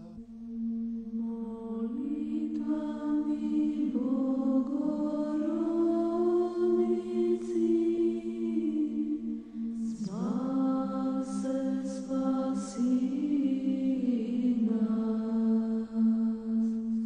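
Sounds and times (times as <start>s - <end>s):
voices chanting over a drone: 0.0s - 17.0s.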